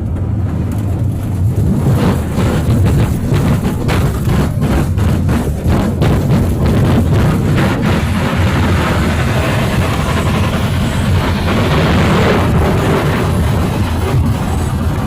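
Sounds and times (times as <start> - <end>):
loud low rumbling: 0.0 - 15.0.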